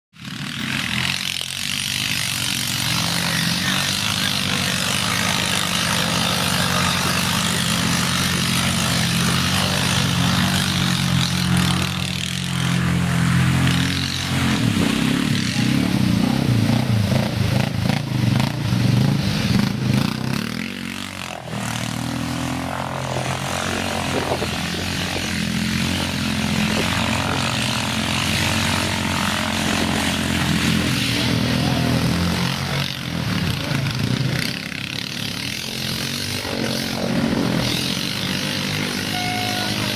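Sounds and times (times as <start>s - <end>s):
second atv engine running steadily: 0.1s - 39.9s
atv engine surging in mud: 0.2s - 39.9s.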